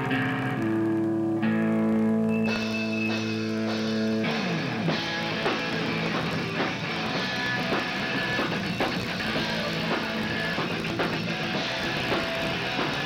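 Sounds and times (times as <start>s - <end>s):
bass guitar: 0.0s - 13.0s
distorted electric guitars: 0.0s - 13.0s
hard-hit drums and cymbals: 2.4s - 13.0s.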